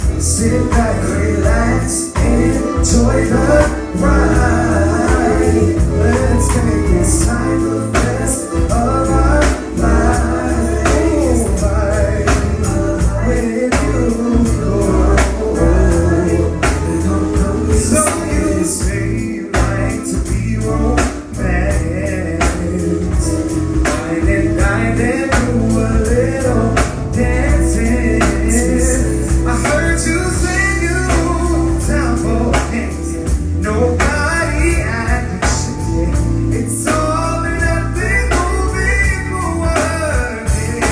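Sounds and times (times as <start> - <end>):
drum kit steady beat: 0.0 - 40.9
live band music with singing: 0.0 - 40.9.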